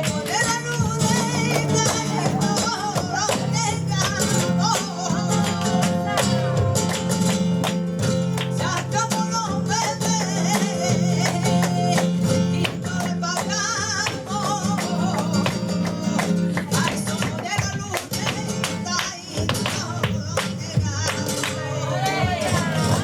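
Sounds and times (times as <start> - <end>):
person singing: 0.0 - 7.2, 8.6 - 23.0
flamenco guitar: 0.0 - 23.0.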